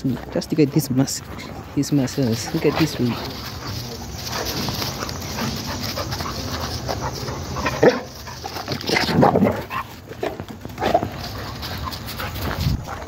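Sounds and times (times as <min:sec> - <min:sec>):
dogs barking and yelping: 0:01.4 - 0:13.0.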